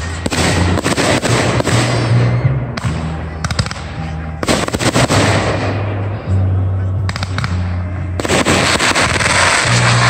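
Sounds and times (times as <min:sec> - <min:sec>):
fireworks bangs: 0:00.0 - 0:06.2, 0:07.0 - 0:10.0
fireworks crackling: 0:00.0 - 0:06.4, 0:07.0 - 0:10.0.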